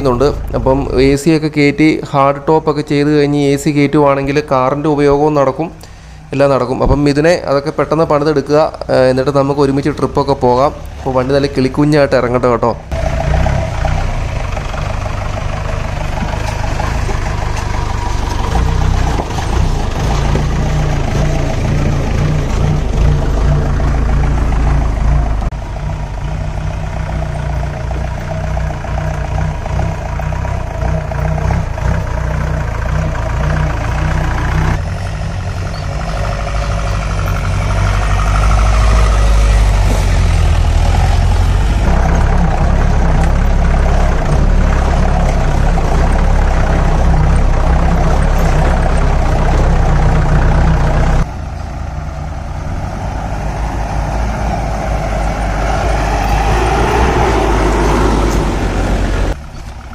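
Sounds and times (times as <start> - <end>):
jeep engine driving: 0.0 - 59.9.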